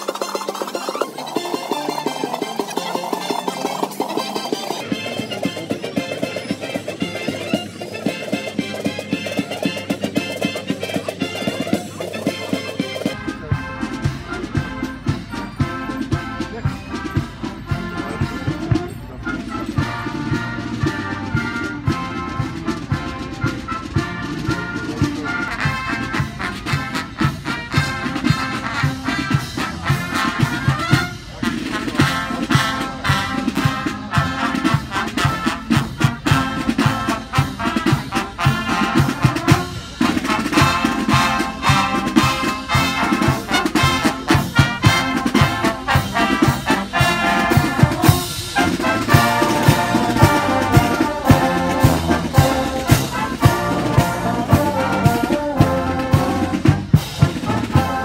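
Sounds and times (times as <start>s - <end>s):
brass horns playing: 0.0s - 58.0s
snare drums march rhythm: 0.0s - 58.0s.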